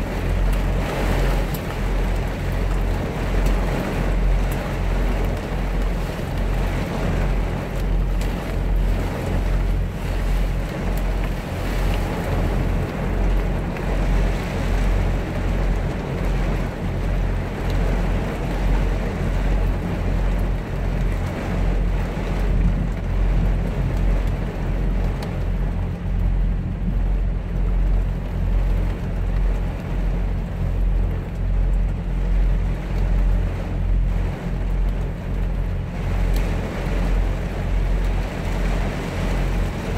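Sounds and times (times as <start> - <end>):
heavy rain drumming on truck cab: 0.0 - 39.9.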